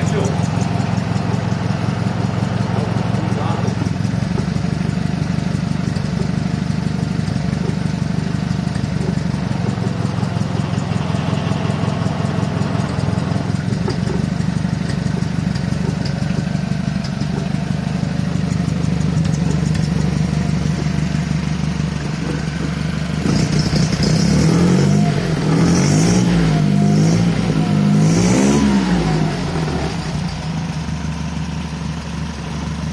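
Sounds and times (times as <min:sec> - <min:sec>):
boat engine idling and revving: 0:00.0 - 0:32.9.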